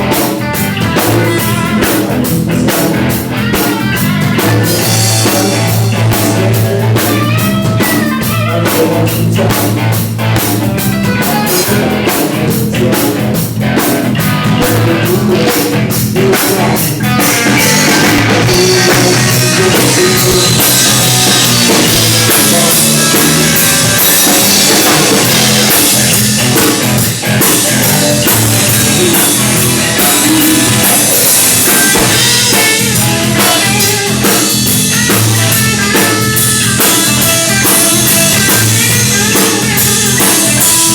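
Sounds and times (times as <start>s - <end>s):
rock and roll band playing: 0.0s - 40.9s.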